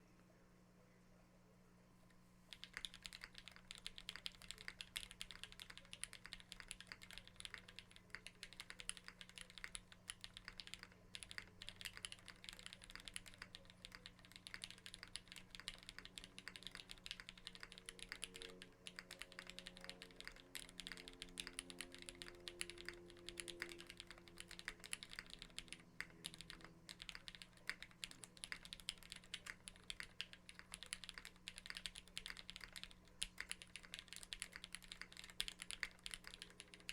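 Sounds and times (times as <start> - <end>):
mechanical keyboard typing: 2.5 - 36.9.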